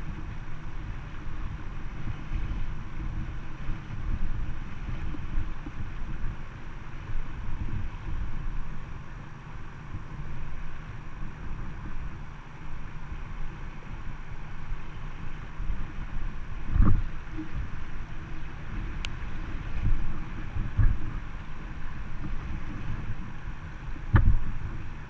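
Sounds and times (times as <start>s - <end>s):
rushing river water: 0.0s - 25.0s
wind buffeting microphone: 0.0s - 25.0s.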